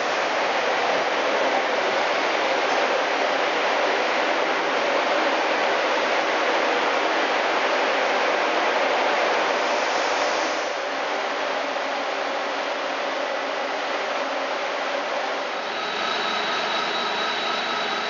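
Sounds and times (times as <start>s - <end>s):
train rumbling into station: 0.0s - 18.0s.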